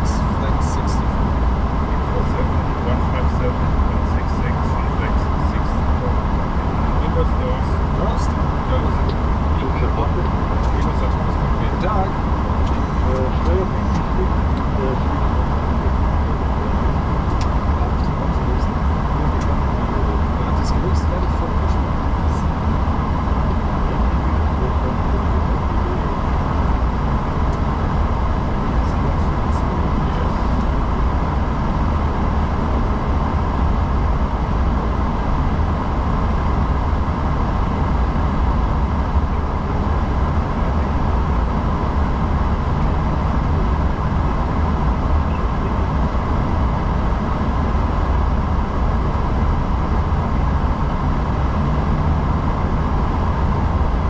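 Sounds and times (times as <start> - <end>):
faint steady tone: 0.0 - 54.0
low rumble: 0.0 - 54.0.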